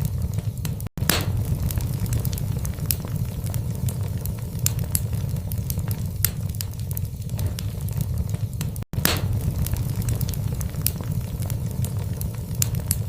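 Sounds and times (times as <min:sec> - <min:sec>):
wood fire crackling: 0:00.0 - 0:13.0
low rumble: 0:01.0 - 0:13.0.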